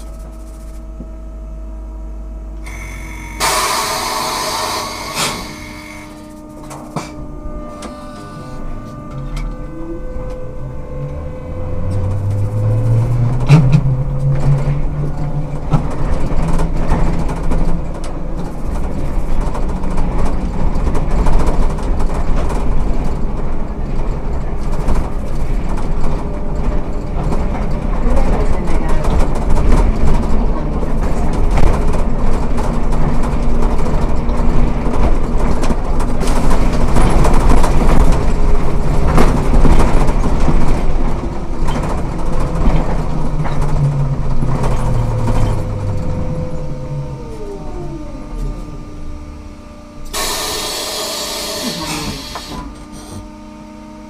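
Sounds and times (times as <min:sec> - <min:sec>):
trolleybus rumbling along road: 0:00.0 - 0:53.5
low motor hum: 0:00.0 - 0:54.0.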